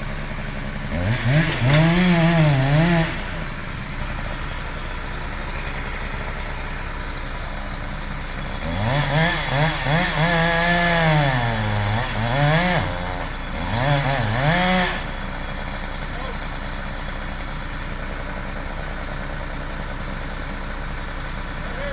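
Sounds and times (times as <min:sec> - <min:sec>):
chainsaw engine revving: 0:00.0 - 0:21.9.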